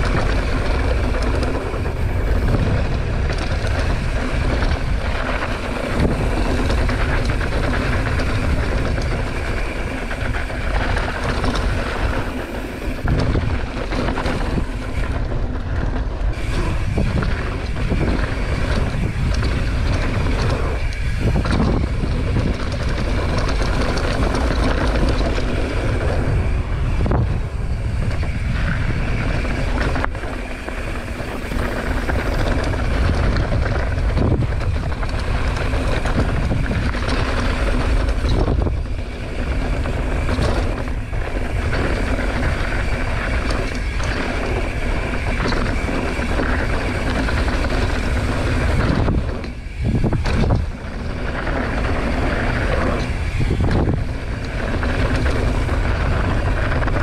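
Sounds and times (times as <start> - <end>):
bike rolling on dirt trail: 0.0 - 57.0
wind buffeting microphone: 0.0 - 57.0.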